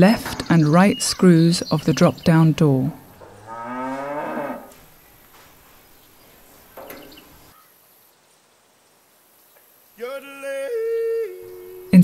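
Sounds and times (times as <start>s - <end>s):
low room hiss: 0.6s - 12.0s.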